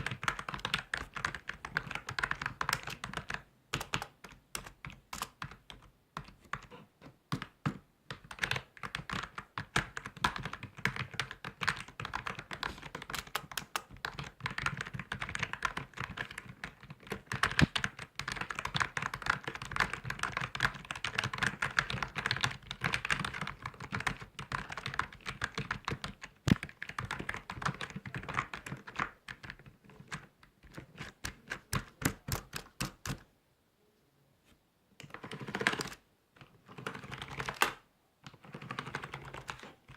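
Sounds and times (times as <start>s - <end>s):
typing on computer keyboard: 0.0s - 33.3s, 35.0s - 39.9s.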